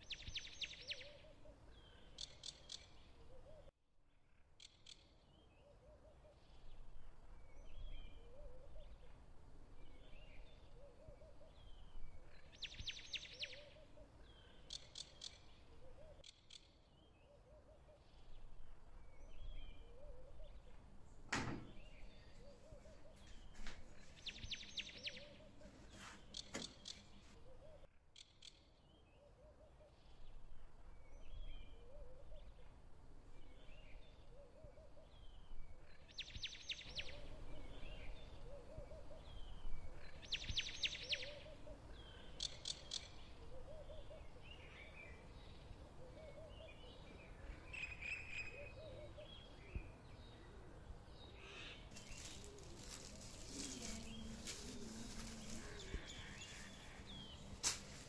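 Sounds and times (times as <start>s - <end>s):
birds chirping faintly: 4.4s - 58.0s.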